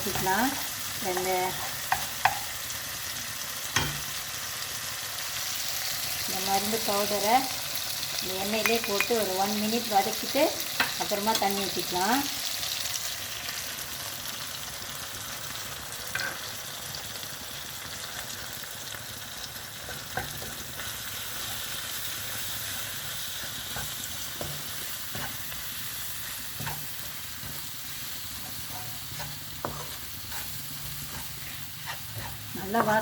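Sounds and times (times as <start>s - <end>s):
spices sizzling in oil: 0.0s - 33.0s.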